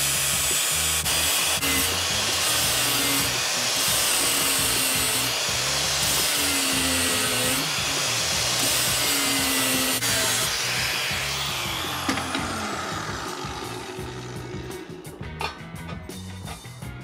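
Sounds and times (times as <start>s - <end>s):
angle grinder grinding metal: 0.0s - 15.7s
background music: 0.1s - 17.0s.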